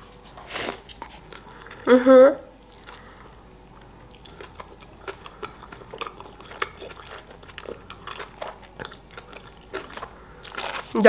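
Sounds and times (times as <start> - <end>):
person chewing food: 0.1 - 1.9, 2.6 - 11.0.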